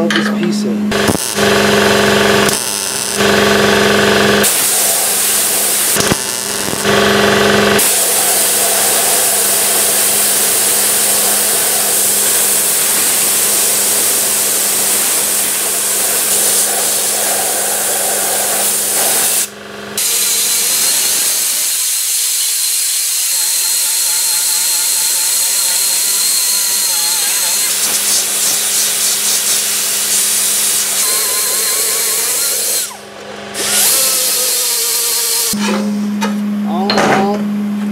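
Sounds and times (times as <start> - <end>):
air die grinder hissing: 0.9 - 35.6
welder buzzing and crackling: 0.9 - 35.6.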